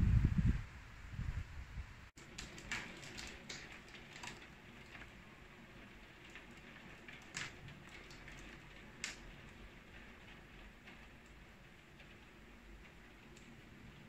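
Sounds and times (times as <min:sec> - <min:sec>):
rain hissing on window: 0:02.1 - 0:14.0
raindrops tapping on glass: 0:02.2 - 0:14.0.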